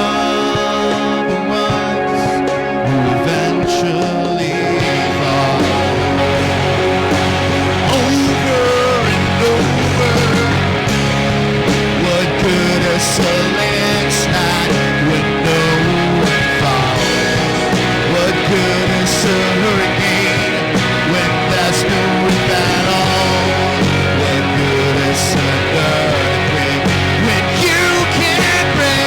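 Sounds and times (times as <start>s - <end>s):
electric guitar bent notes: 0.0s - 29.0s
rock band playing: 0.0s - 29.0s.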